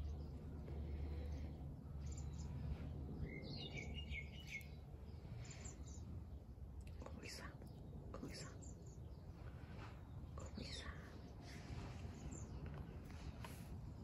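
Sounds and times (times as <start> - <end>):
low steady rumble: 0.0 - 14.0
small birds chirping: 0.0 - 14.0.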